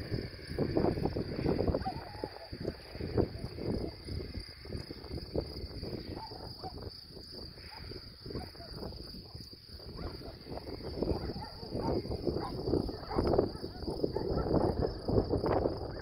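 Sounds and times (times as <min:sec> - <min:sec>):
insects trilling: 0:00.0 - 0:16.0
wind gusting on microphone: 0:00.0 - 0:16.0.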